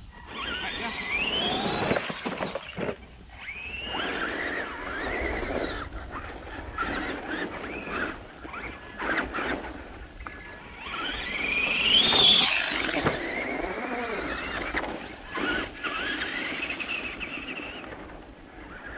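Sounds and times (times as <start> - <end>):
electric motor whining: 0.1 - 18.9.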